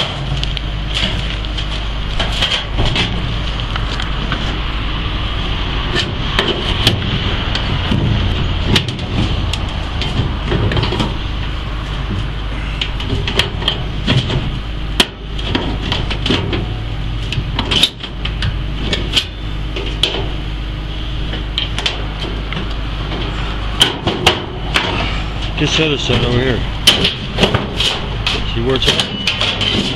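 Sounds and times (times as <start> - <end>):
steady machine hum: 0.0 - 29.9
metal knocks and clanks: 0.9 - 3.6, 5.9 - 11.3, 11.9 - 20.4, 21.3 - 29.9.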